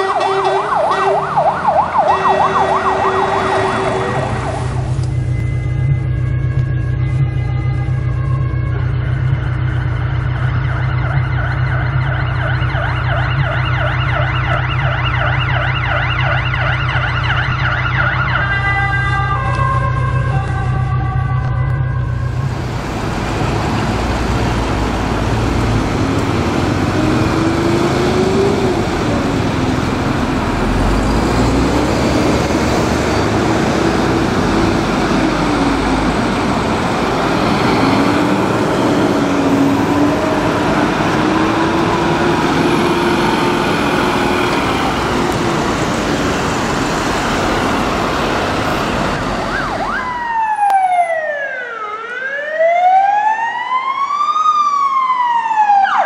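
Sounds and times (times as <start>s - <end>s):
heavy engine and road noise: 0.0s - 56.0s
siren sweeping down and up: 0.0s - 56.0s
wavering siren: 0.0s - 56.0s.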